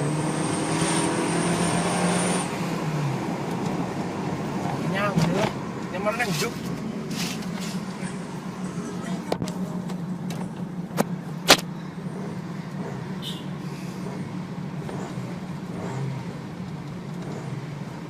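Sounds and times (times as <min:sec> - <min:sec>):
car engine idling: 0:02.6 - 0:18.0.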